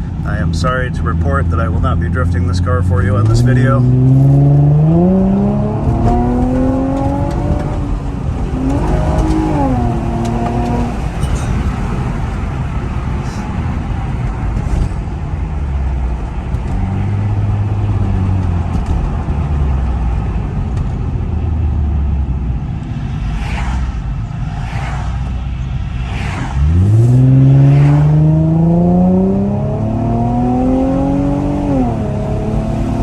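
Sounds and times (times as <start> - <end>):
car exhaust accelerating: 0.0 - 33.0
road and wind noise: 0.0 - 33.0.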